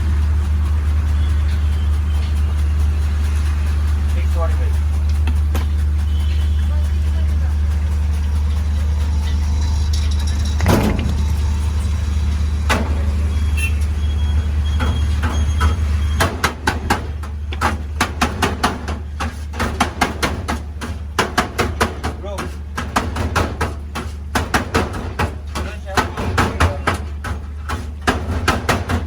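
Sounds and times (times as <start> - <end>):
low engine hum: 0.0 - 29.0
sharp knocks and clatters: 0.0 - 29.0.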